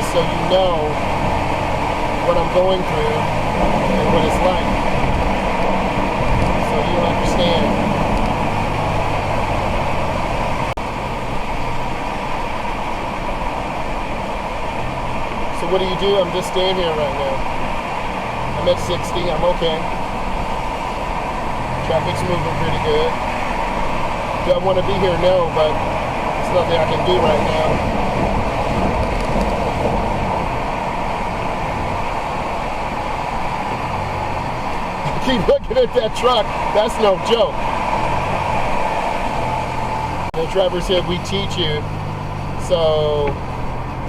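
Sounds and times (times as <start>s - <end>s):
car engine running: 0.0s - 44.0s.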